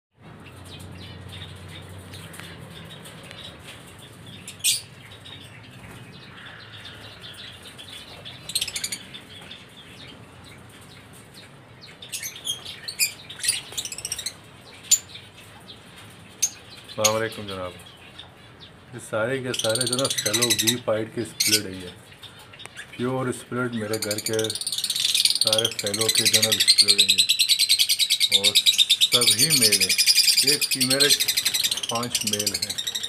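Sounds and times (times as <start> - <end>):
cockatiels chirping: 0.4 - 33.0.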